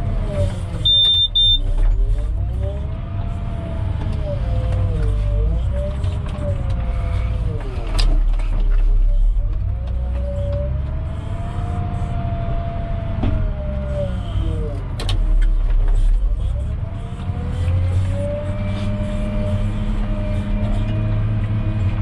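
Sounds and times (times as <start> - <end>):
diesel engine rumble with whine: 0.0 - 22.0.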